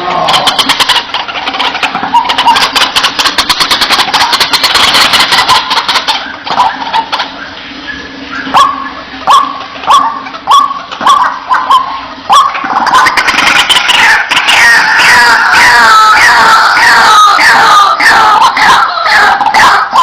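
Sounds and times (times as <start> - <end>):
waterhen calls: 0.0 - 20.0.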